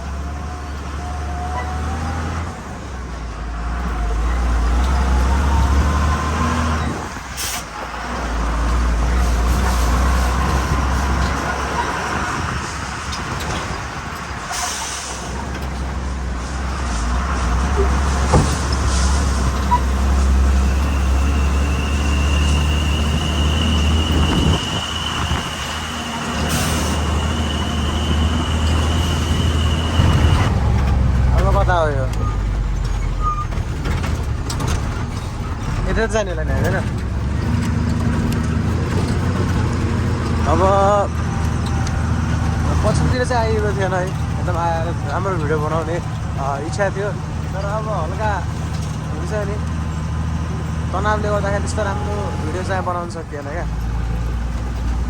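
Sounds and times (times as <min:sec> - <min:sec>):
truck diesel engine driving: 0:00.0 - 0:55.0.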